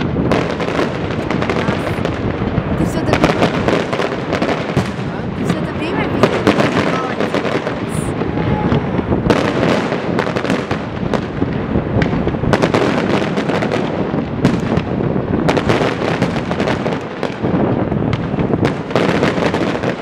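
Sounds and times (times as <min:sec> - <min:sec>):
fireworks bursting: 0:00.0 - 0:20.0
fireworks crackling: 0:00.0 - 0:20.0.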